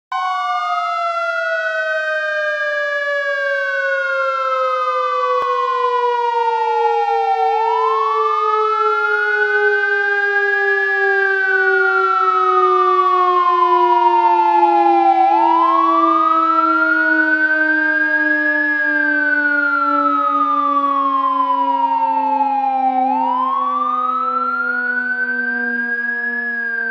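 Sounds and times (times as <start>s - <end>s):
siren wailing: 0.1s - 26.9s
low tone sliding downward: 0.2s - 26.9s.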